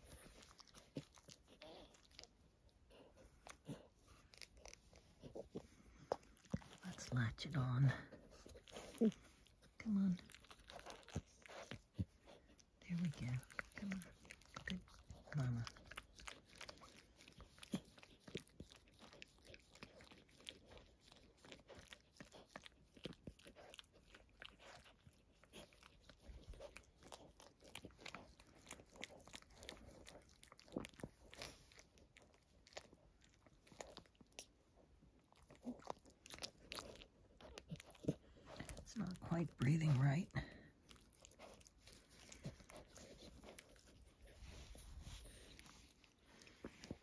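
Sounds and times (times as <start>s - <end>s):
dog licking puppy: 0.0s - 47.0s.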